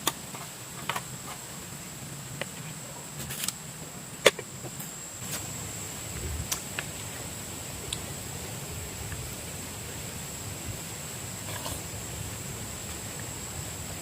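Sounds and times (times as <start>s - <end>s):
low hiss: 0.0s - 14.0s
high-pitched insect drone: 2.6s - 14.0s.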